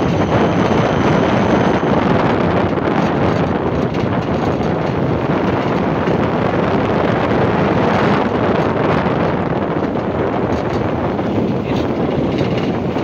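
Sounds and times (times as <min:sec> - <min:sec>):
road and traffic noise: 0:00.0 - 0:13.0
wind on microphone: 0:00.0 - 0:13.0.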